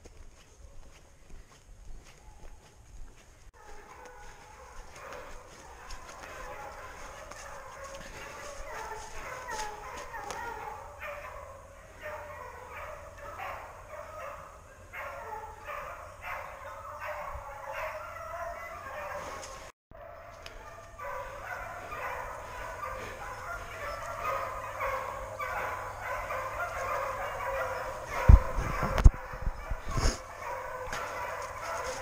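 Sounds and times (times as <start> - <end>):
hounds baying and yelping: 2.0 - 2.7, 3.5 - 32.0.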